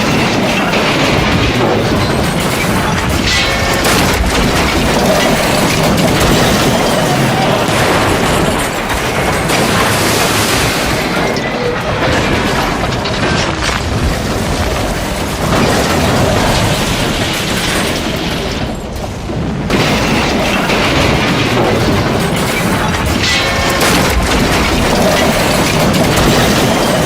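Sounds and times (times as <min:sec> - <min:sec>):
crashing and booming wreckage: 0:00.0 - 0:27.0
rail clatter: 0:00.0 - 0:27.0.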